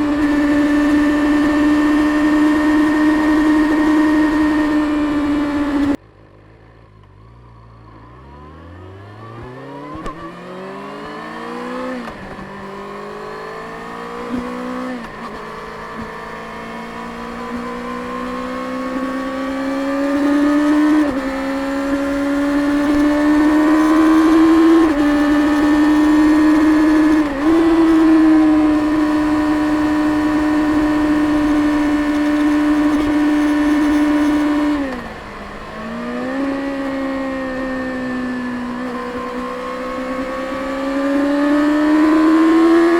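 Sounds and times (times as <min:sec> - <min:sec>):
motorcycle engine revving: 0:00.0 - 0:06.0, 0:07.1 - 0:42.9.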